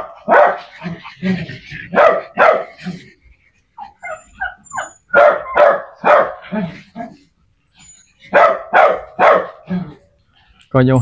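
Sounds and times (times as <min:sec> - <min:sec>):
small dogs barking: 0:00.0 - 0:07.3, 0:08.1 - 0:10.0.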